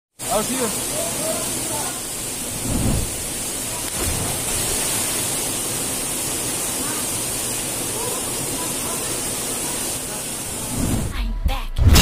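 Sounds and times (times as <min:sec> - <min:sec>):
waterfall rushing: 0:00.2 - 0:11.1.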